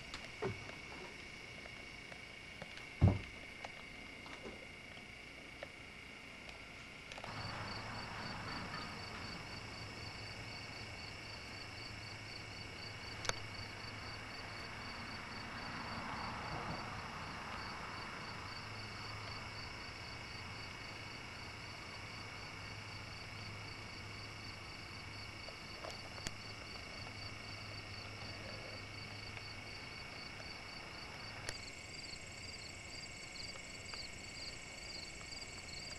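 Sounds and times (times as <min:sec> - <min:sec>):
crickets chirping: 0:00.0 - 0:35.9.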